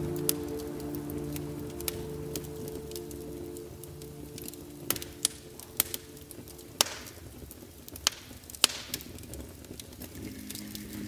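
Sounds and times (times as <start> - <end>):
faint hiss: 0.0 - 11.0
log fire crackling: 0.0 - 11.0.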